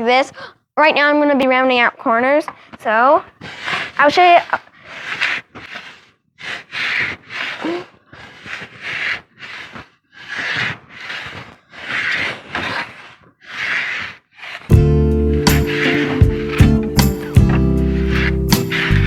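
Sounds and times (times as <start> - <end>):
block plane rasping along wood: 2.5 - 19.0.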